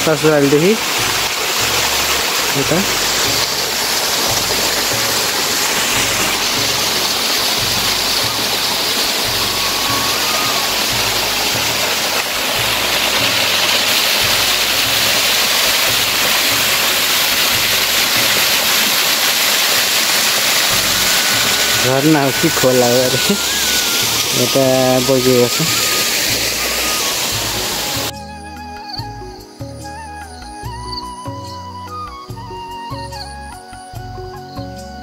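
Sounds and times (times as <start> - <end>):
waterfall rushing: 0.0 - 28.2.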